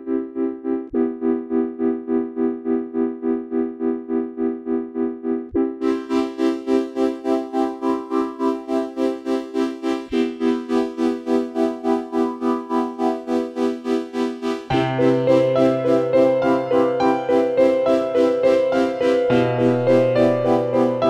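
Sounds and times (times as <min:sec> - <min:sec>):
electronic keyboard pulsing chords: 0:00.0 - 0:21.0.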